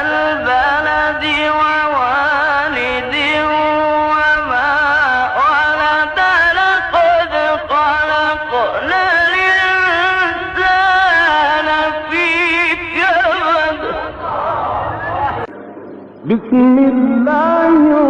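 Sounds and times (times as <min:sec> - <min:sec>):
man chanting recitation: 0:00.0 - 0:15.1, 0:16.2 - 0:18.0.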